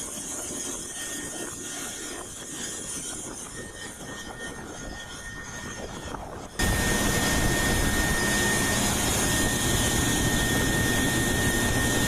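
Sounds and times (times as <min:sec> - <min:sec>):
machine whining: 0:00.5 - 0:12.0.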